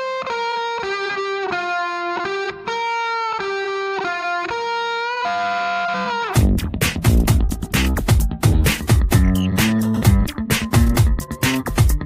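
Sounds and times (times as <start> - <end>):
distorted electric guitar melody: 0.0 - 12.0.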